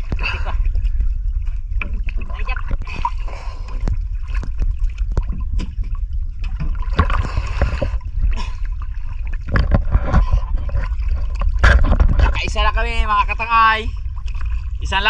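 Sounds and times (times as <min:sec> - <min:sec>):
low rumble: 0:00.0 - 0:15.0
water splashing and gurgling: 0:00.0 - 0:15.0.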